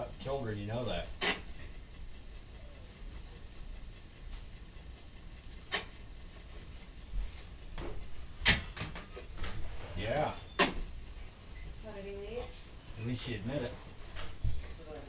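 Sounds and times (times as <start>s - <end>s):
sharp clicks: 0.1s - 15.0s.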